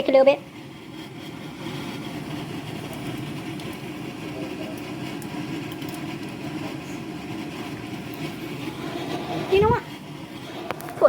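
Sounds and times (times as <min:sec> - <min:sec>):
motor humming: 0:01.0 - 0:11.0.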